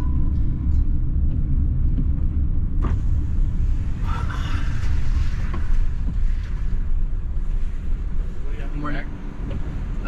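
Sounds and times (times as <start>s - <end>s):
van driving rumble: 0.0s - 10.0s.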